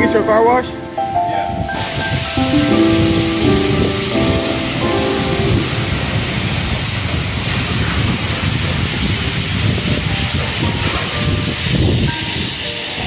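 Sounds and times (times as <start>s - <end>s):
pressure washer spraying water: 1.8s - 13.0s.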